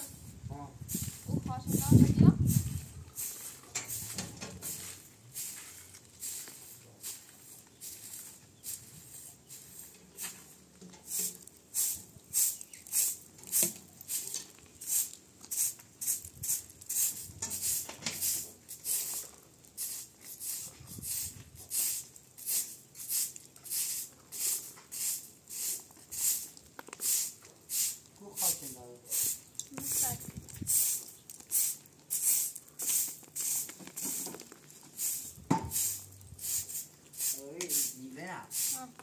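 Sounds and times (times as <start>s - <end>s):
broom sweeping: 0.0s - 39.0s.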